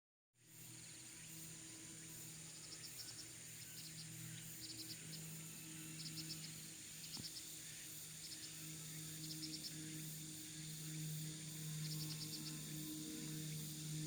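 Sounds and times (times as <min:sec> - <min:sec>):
insects droning: 0:00.4 - 0:14.0
insect chirping pulses: 0:00.6 - 0:14.0.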